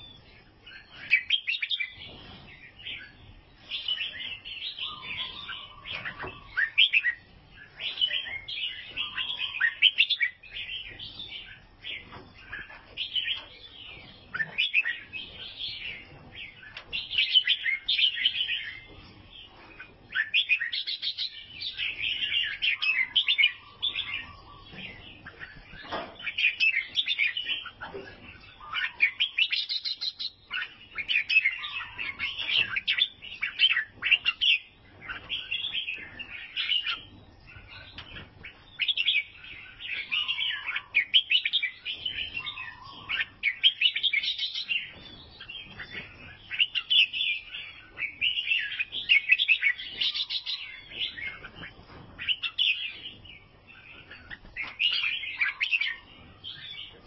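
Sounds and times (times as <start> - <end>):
bird chirping phrases: 0.0 - 57.0.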